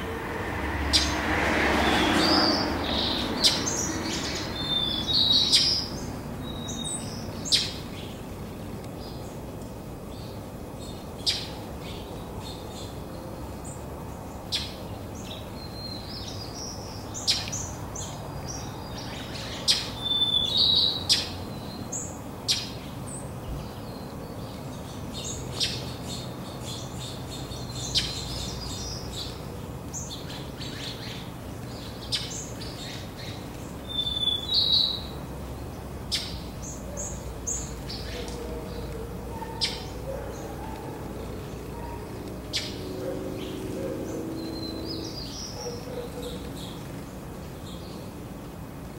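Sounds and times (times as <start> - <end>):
small songbirds chirping: 0.0 - 48.8
distant road traffic hum: 0.0 - 48.9.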